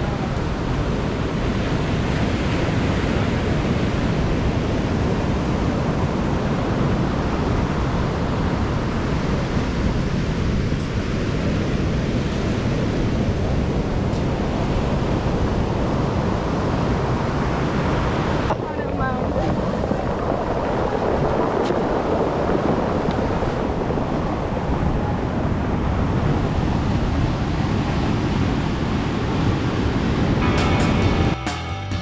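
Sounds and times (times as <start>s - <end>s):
ocean surf breaking: 0.0s - 31.4s
wind rumbling on microphone: 0.0s - 31.4s.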